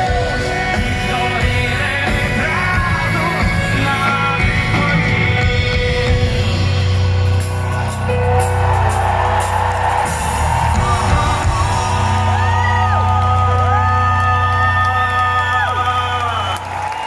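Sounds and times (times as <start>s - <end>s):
live rock band playing: 0.0s - 15.6s
crowd cheering: 0.0s - 17.0s.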